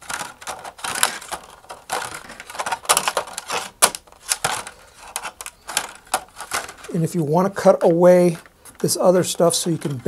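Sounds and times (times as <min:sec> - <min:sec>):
plastic sheet crackling: 0:00.0 - 0:10.0.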